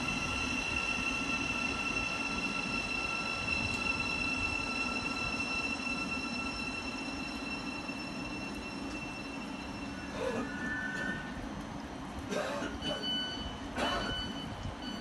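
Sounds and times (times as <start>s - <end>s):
train brakes squealing: 0.0s - 11.4s, 12.5s - 15.0s
low rumble of train wheels: 0.0s - 15.0s.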